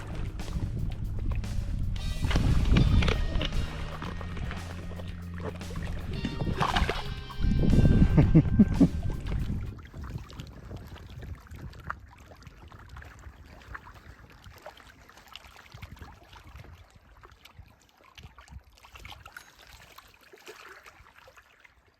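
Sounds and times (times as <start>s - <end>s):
water sloshing and splashing: 0.0s - 21.9s.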